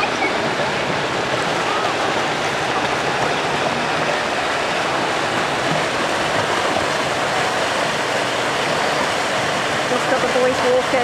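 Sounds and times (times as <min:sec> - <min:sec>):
water pouring and splashing: 0:00.0 - 0:11.0.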